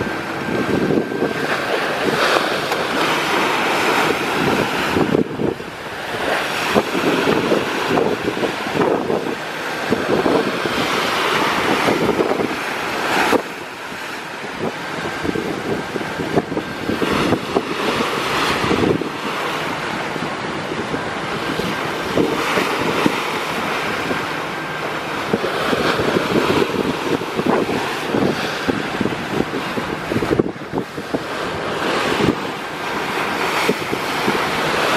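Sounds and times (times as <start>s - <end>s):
sea water rushing along a hull: 0.0s - 34.9s
wind buffeting the microphone: 0.0s - 34.9s.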